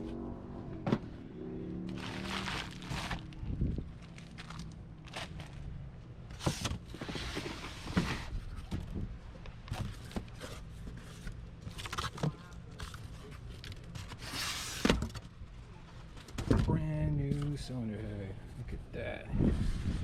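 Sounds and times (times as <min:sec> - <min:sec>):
low steady hum: 0:00.0 - 0:19.6.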